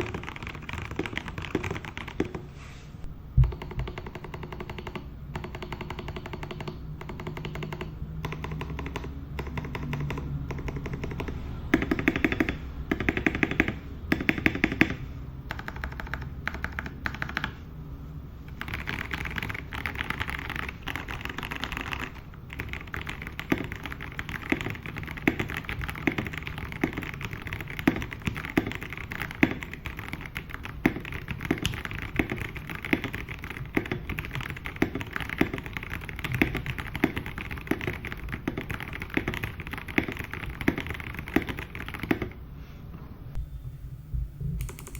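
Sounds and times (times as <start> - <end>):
mechanical keyboard typing: 0.0 - 2.5, 3.4 - 17.6, 18.5 - 42.4, 44.6 - 44.9.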